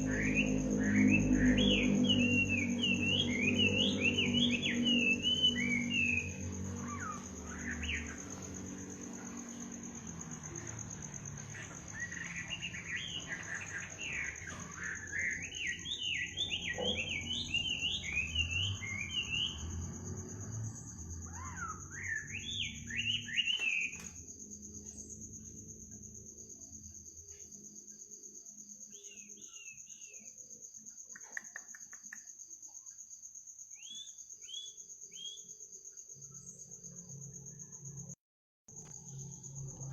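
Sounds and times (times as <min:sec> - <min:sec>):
bird chirping: 0:00.0 - 0:26.1, 0:28.7 - 0:33.0, 0:33.7 - 0:37.8
cricket trill: 0:00.0 - 0:39.9.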